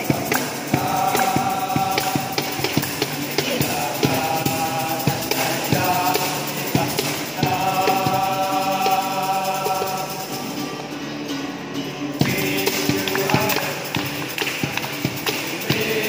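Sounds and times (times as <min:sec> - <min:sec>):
rhythmic sharp taps: 0:00.0 - 0:10.6, 0:12.2 - 0:16.0
acoustic guitar: 0:00.0 - 0:16.0
male choir singing: 0:00.0 - 0:16.0.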